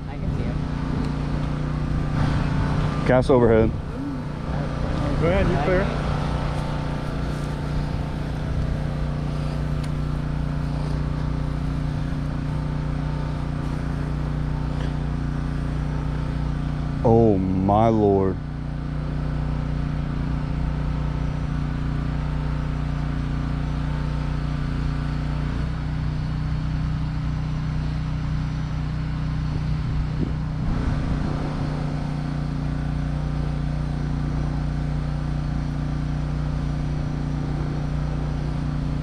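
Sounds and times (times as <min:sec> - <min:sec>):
motor humming: 0:00.0 - 0:26.4, 0:29.3 - 0:39.0.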